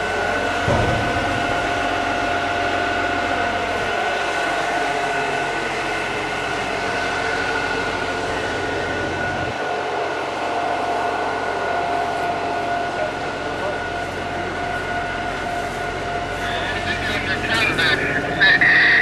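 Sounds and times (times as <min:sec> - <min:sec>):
machine whining: 0:00.0 - 0:19.0.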